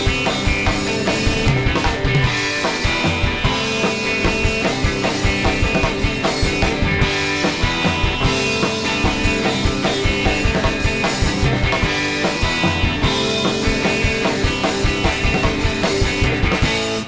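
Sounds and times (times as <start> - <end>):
drum kit beat: 0.0 - 17.0
rock band playing live: 0.0 - 17.0.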